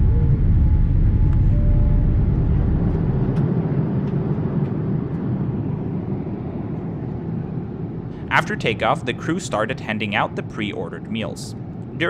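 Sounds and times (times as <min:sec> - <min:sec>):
airplane engine and airflow in cabin: 0:00.0 - 0:12.0.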